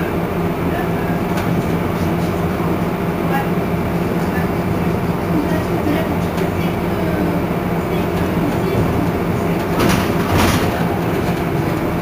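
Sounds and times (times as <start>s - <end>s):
bus drive humming: 0.0s - 12.0s.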